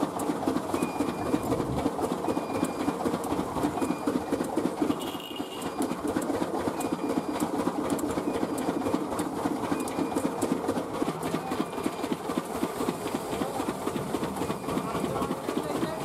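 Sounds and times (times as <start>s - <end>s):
machine rattling clatter: 0.0s - 16.0s.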